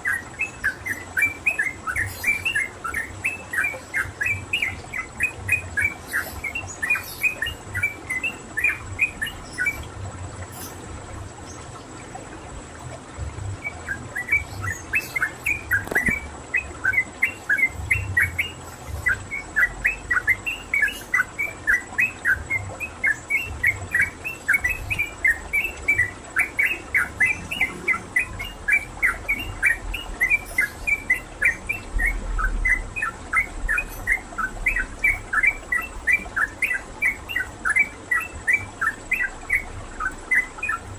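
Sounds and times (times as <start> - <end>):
bird chirping rapidly: 0.0 - 9.8, 13.6 - 40.9.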